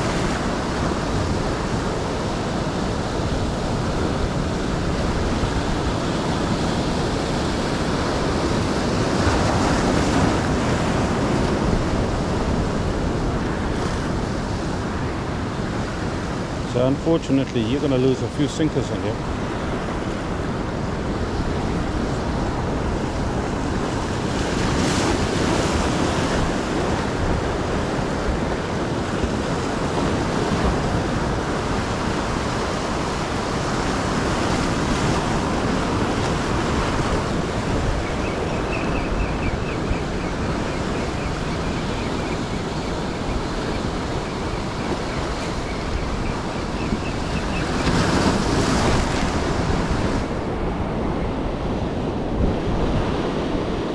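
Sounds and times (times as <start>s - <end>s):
ocean surf breaking on shore: 0.0s - 53.9s
wind rumbling on microphone: 0.0s - 53.9s.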